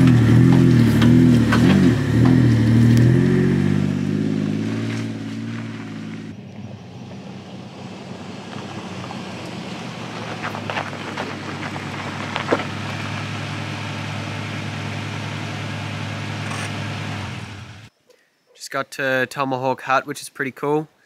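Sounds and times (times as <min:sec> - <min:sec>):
stones crunching under tyres: 0:00.0 - 0:17.1
engine revving: 0:00.0 - 0:17.9
outdoor background noise: 0:00.0 - 0:21.0.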